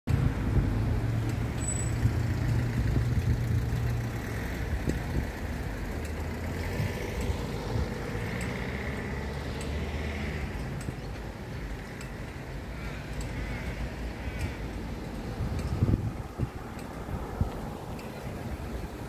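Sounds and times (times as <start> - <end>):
tyre noise of passing cars: 0.1 - 19.0.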